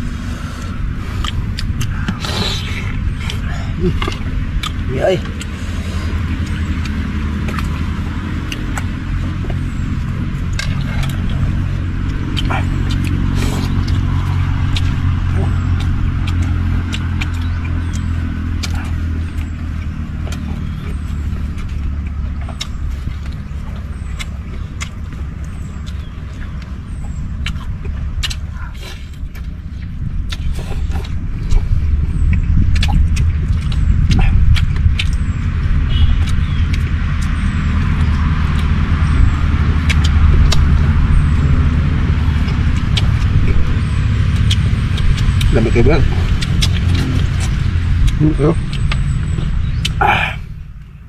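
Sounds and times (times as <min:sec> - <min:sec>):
low engine-like hum: 0:00.0 - 0:51.0
steady low rumble: 0:00.0 - 0:51.0.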